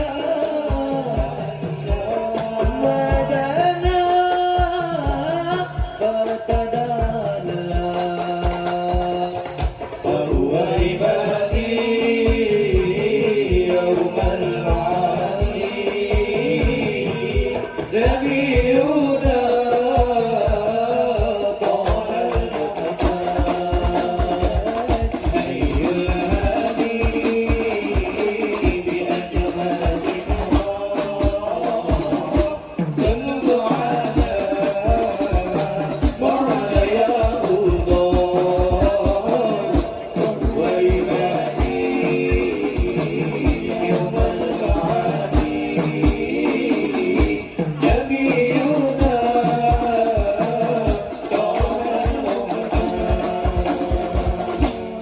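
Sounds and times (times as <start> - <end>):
frame drums beating: 0.0 - 55.0
men singing together: 0.0 - 55.0.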